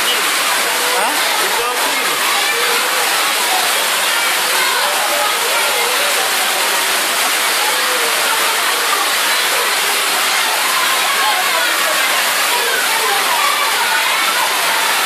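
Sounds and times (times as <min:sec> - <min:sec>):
faint children's voices: 0:00.0 - 0:15.0
heavy rain on metal roof: 0:00.0 - 0:15.0.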